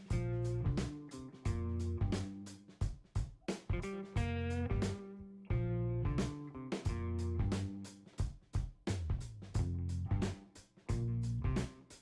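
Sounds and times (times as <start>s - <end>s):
steady beat: 0.0s - 12.0s.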